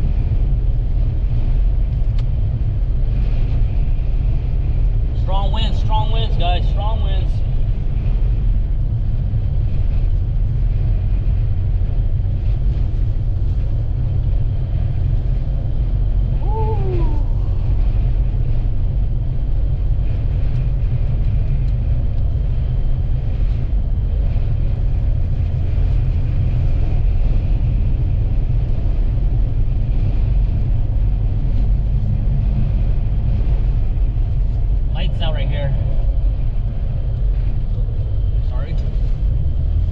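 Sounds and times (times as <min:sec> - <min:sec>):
road noise inside car: 0:00.0 - 0:39.9
wind buffeting vehicle: 0:00.0 - 0:39.9.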